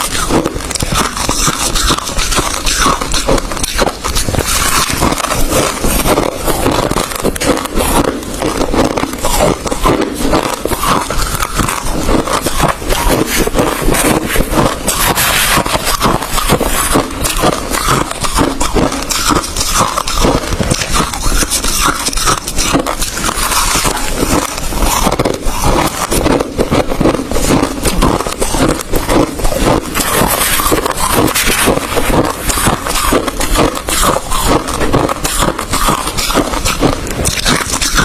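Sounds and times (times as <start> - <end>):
ice crunching being chewed: 0.0 - 38.0.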